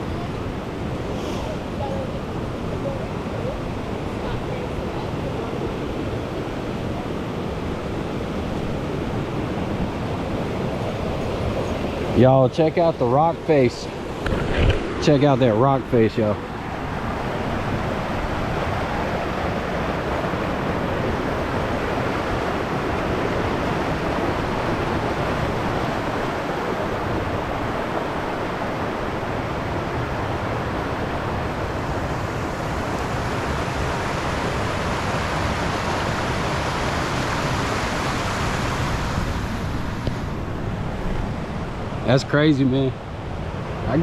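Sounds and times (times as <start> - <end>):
river water rushing over rocks: 0.0 - 44.0.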